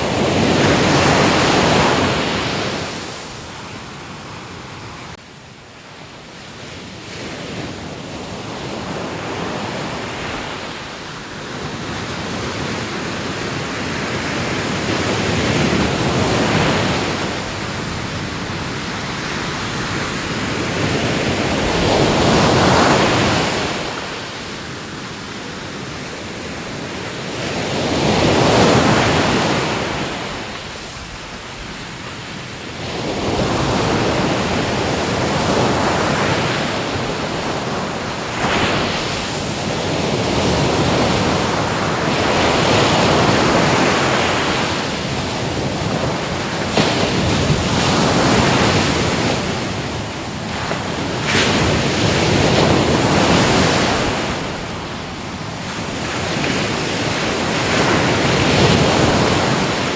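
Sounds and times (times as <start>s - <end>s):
ocean waves washing onto shore: 0.0s - 59.9s.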